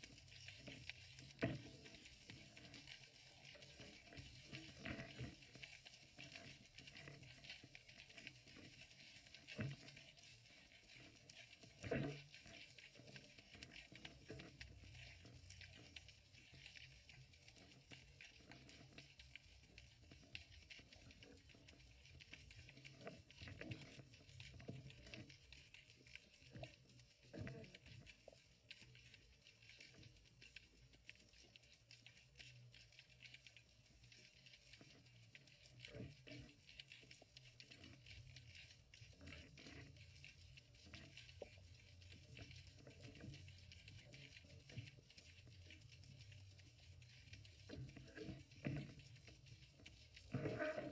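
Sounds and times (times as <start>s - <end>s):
underwater clicks and crackles: 0.0s - 50.9s.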